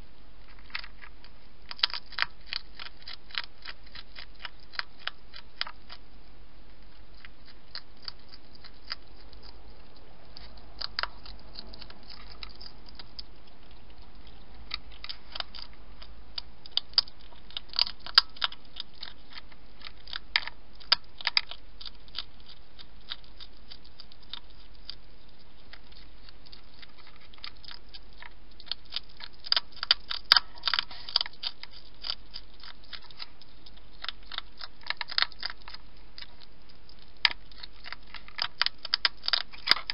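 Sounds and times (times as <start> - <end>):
hedgehog chewing and crunching: 0.0 - 39.9.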